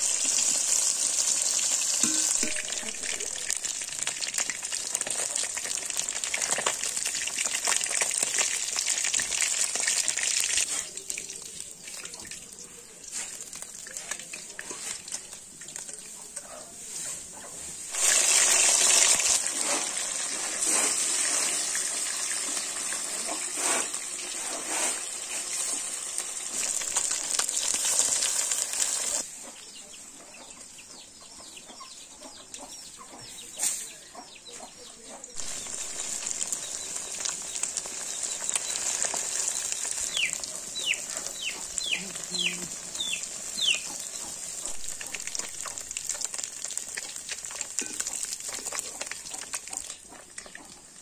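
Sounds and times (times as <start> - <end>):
fish sizzling in hot oil: 0.0 - 17.0, 17.8 - 29.3, 35.4 - 51.0.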